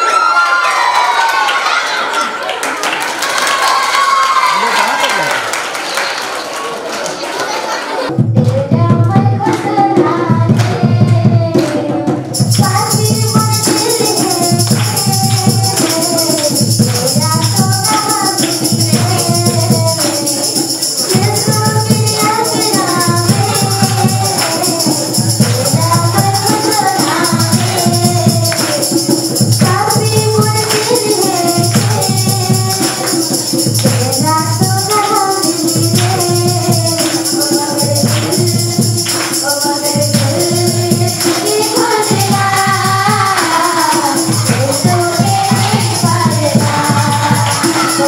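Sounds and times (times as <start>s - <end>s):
jingling percussion: 8.2s - 48.0s
song with singing over beat: 8.4s - 48.0s.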